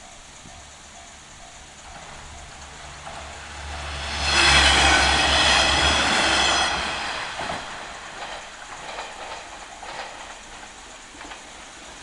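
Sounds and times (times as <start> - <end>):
train passing: 1.0 - 12.0.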